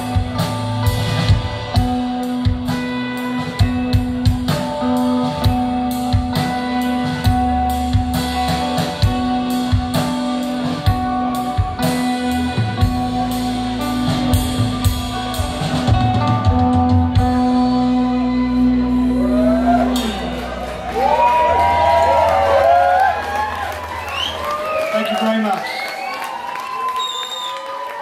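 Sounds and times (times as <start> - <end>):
drum kit beating: 0.0 - 24.5
electric guitars: 0.0 - 24.9.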